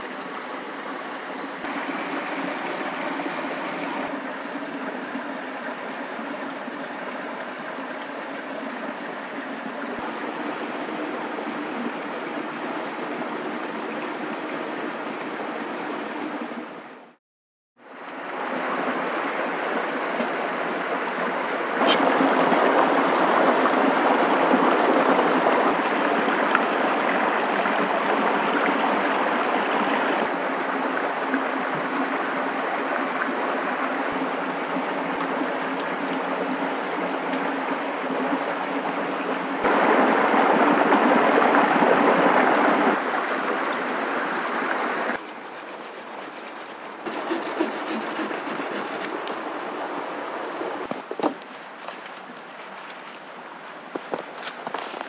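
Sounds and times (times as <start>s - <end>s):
stream rushing: 0.0s - 17.2s, 17.8s - 55.0s.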